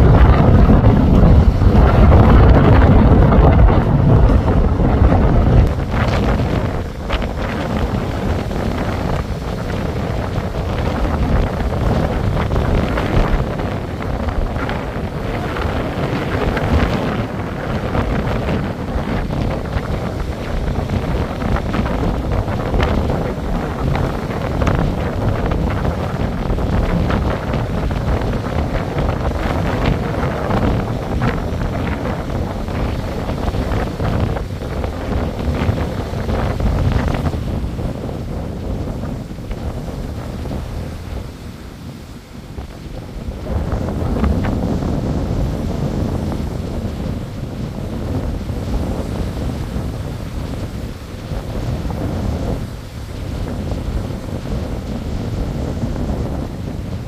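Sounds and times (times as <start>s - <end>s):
waves breaking on beach: 0.0s - 57.0s
wind buffeting microphone: 0.0s - 57.0s.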